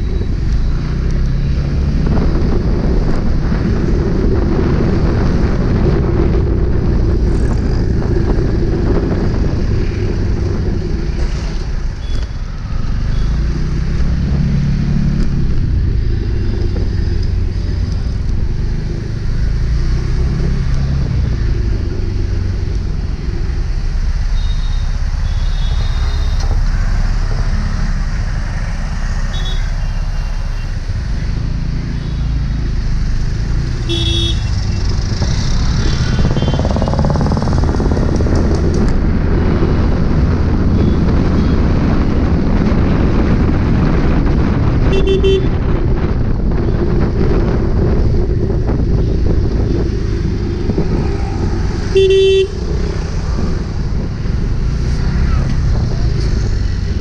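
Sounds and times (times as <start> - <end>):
motorcycle engine revving: 0.0 - 57.0
surrounding traffic: 0.0 - 57.0
wind on microphone: 0.0 - 57.0.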